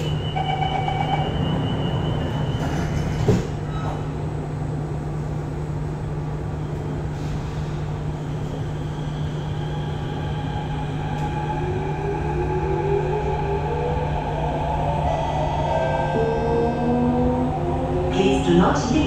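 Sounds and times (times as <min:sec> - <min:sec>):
train car hum: 0:00.0 - 0:19.0.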